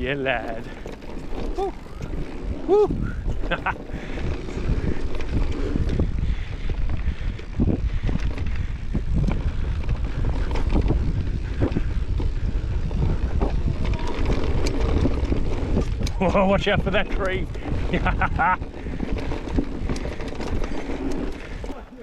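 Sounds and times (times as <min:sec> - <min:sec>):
bike knocks and rattles: 0:00.0 - 0:06.4, 0:07.1 - 0:22.0
rumble of bike tyres on dirt: 0:00.0 - 0:22.0
wind buffeting microphone: 0:00.0 - 0:22.0.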